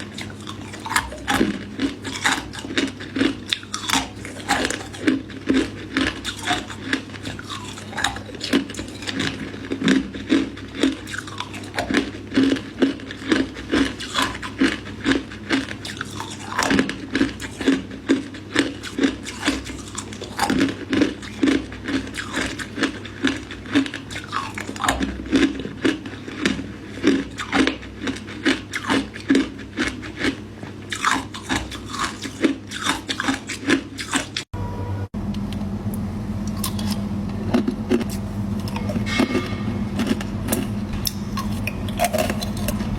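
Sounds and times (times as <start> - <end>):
crunching and chewing ice: 0.0 - 34.5, 36.5 - 42.9.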